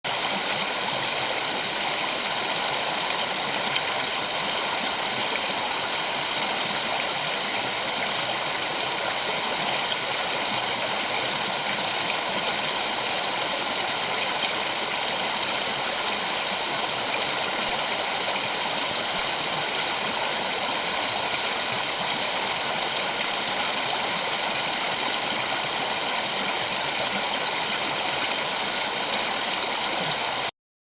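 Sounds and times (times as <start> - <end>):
creek water rushing: 0.0 - 30.5.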